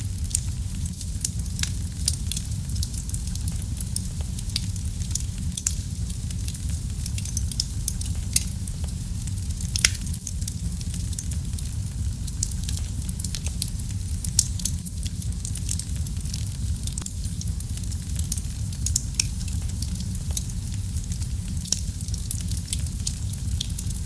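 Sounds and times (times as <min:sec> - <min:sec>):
fire crackling and popping: 0:00.0 - 0:24.0
wood fire rumbling: 0:00.0 - 0:24.0.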